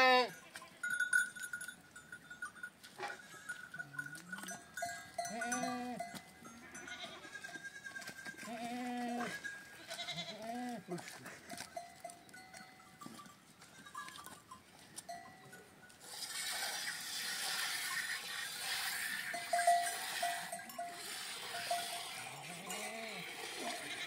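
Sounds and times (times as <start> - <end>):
animal bells clinking: 0.0 - 17.0, 17.6 - 24.0.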